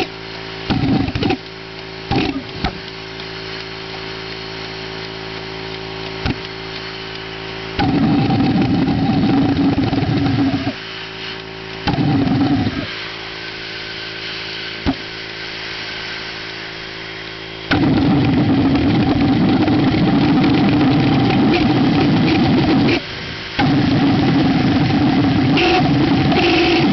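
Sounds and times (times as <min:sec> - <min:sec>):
pulsejet rough buzzing bursts: 0:00.0 - 0:26.9
steady hum: 0:00.0 - 0:26.9.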